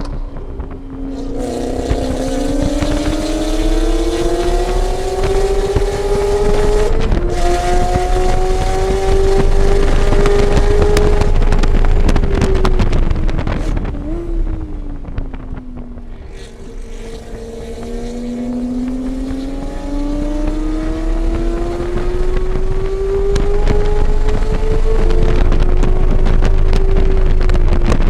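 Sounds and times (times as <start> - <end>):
race car engine revving: 0.0 - 28.0
road noise: 0.0 - 28.0
wind noise: 0.0 - 28.0.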